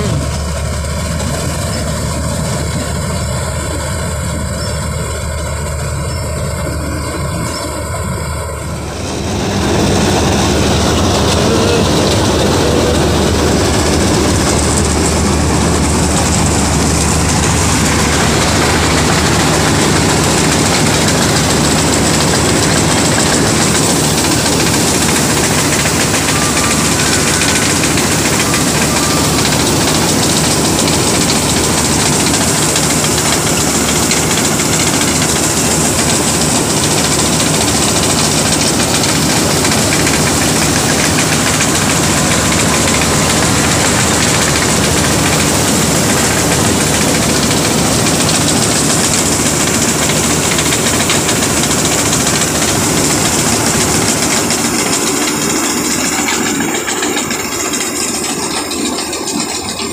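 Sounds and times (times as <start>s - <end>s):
combine harvester droning: 0.0s - 59.9s.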